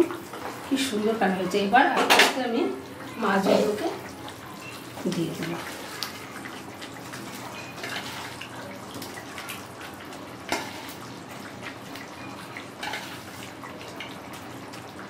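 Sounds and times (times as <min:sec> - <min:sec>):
curry bubbling in a pan: 0:00.0 - 0:15.0.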